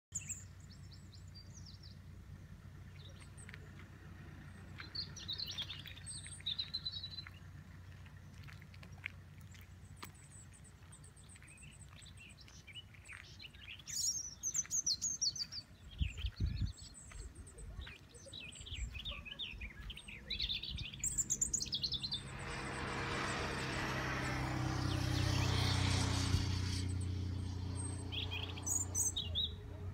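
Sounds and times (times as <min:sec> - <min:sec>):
birds chirping and singing: 0:00.1 - 0:08.5, 0:09.5 - 0:23.3, 0:24.1 - 0:29.9
vehicle passing: 0:00.6 - 0:16.4, 0:18.4 - 0:29.9.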